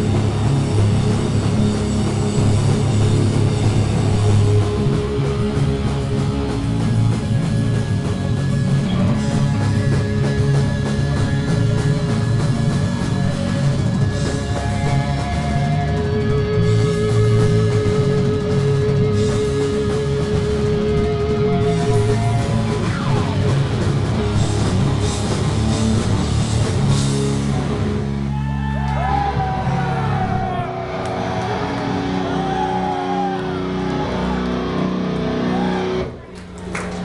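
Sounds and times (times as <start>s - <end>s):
electric guitar: 0.0s - 37.0s
rock band playing live: 0.0s - 37.0s.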